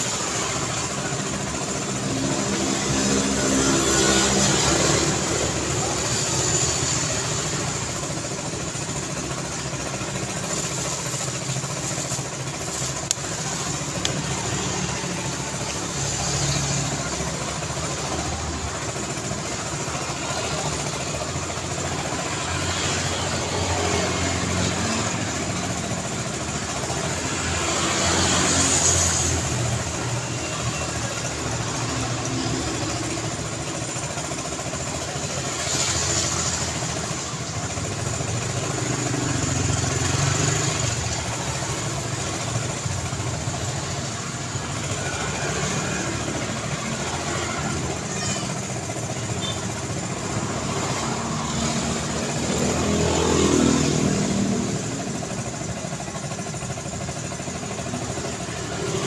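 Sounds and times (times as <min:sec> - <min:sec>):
car engines and tyre noise: 0:00.0 - 0:59.0
vehicles passing: 0:00.0 - 0:59.0.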